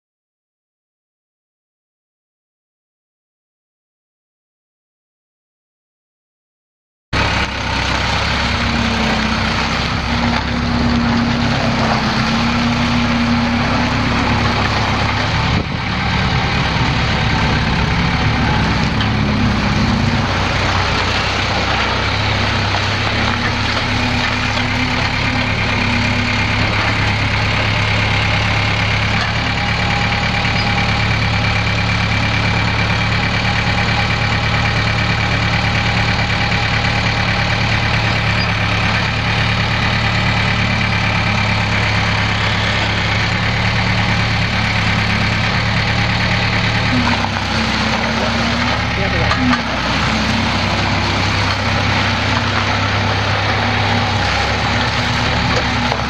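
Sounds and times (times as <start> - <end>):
diesel engine idling: 7.2 - 56.0.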